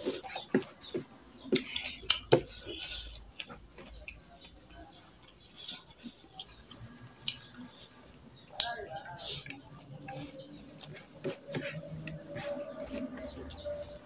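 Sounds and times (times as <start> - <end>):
fingers squishing food on plate: 0.0 - 14.0
wet chewing and mouth smacks: 1.5 - 13.8.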